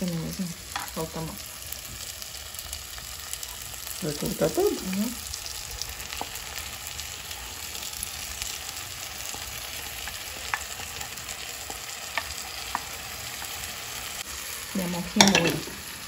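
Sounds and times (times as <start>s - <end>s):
meat sauce sizzling in a pan: 0.0s - 16.0s.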